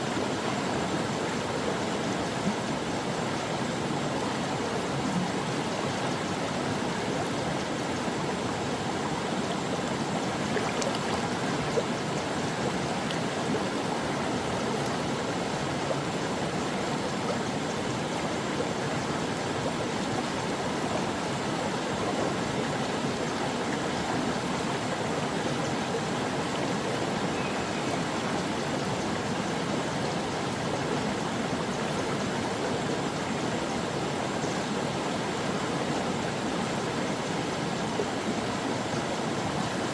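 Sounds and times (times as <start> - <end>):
stream flowing over rocks: 0.1 - 39.9.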